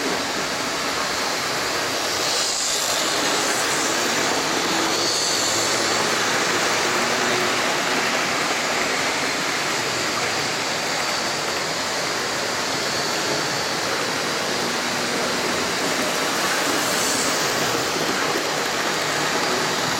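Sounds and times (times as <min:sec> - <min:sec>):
model train wheels on rails: 0:00.0 - 0:19.9.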